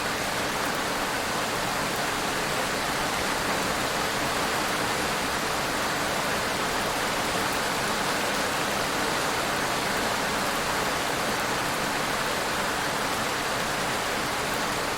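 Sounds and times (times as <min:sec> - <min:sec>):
steady rain: 0:00.0 - 0:14.9.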